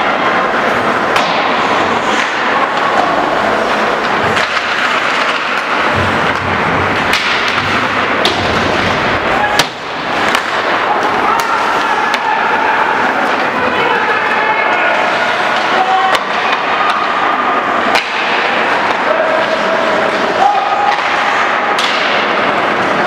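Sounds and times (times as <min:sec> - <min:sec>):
hockey sticks and puck clacking: 0:00.0 - 0:23.0
skates scraping ice: 0:00.0 - 0:23.0
steady crowd din: 0:00.0 - 0:23.0.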